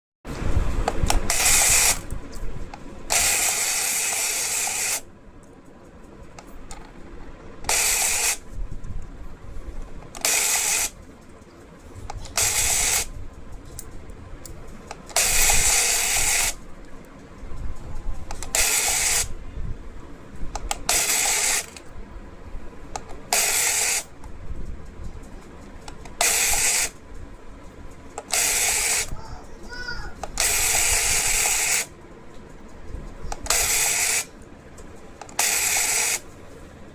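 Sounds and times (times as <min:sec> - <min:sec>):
toy geared mechanism whirring: 0:00.8 - 0:05.1, 0:07.6 - 0:19.7, 0:20.4 - 0:22.0, 0:22.9 - 0:36.4.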